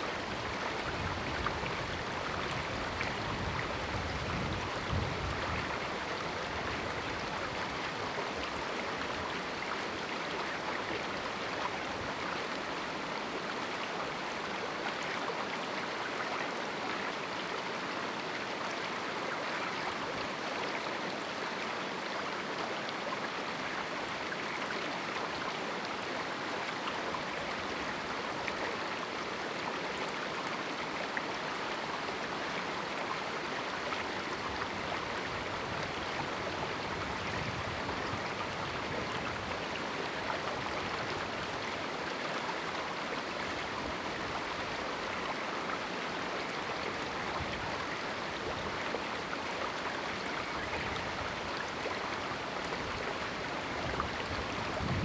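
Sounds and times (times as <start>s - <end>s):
river water rushing and babbling: 0.0s - 55.0s.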